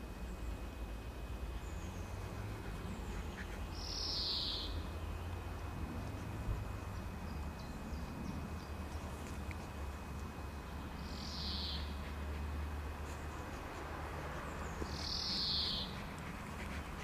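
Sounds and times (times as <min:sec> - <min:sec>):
small birds chirping: 0:01.4 - 0:17.0.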